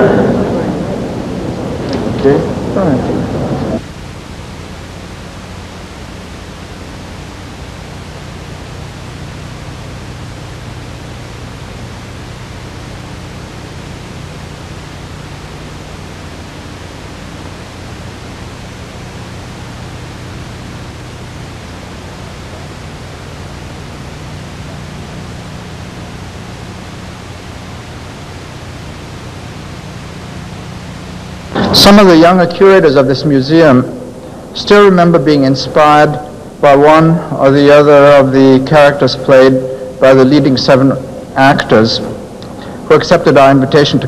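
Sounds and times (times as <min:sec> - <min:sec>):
faint low hum: 0:00.0 - 0:44.0
tape hiss: 0:00.0 - 0:44.0.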